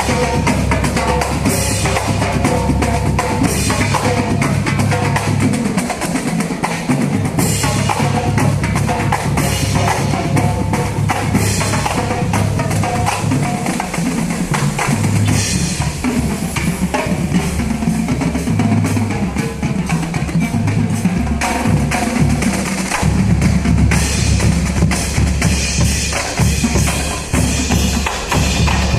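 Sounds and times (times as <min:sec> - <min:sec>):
bass drums: 0:00.0 - 0:28.9
snare drums: 0:00.0 - 0:28.9.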